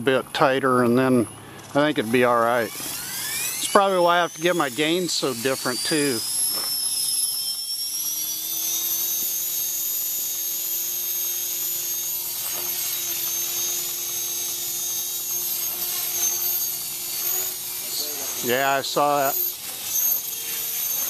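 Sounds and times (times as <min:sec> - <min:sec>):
electric motor whine: 0:00.0 - 0:21.0
rc helicopter rotor drone: 0:00.0 - 0:21.0.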